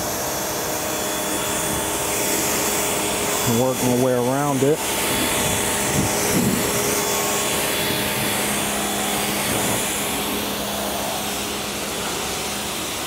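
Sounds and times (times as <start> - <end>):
hose spraying water on car: 0.0 - 13.0.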